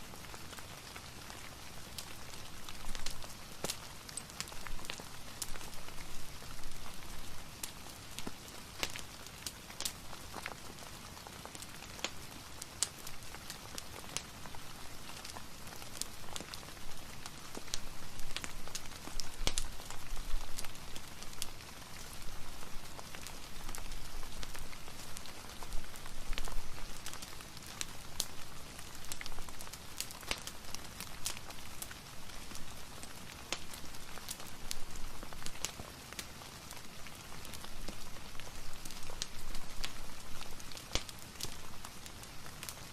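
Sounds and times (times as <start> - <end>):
steady rain hissing: 0.0 - 42.9
fireplace crackling: 0.1 - 42.9.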